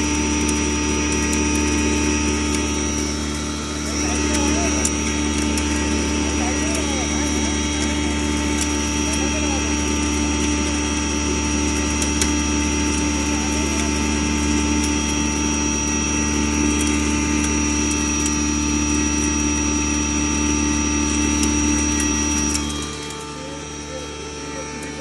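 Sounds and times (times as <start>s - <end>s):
grinder machine humming: 0.0s - 25.0s
high machine whine: 0.0s - 25.0s.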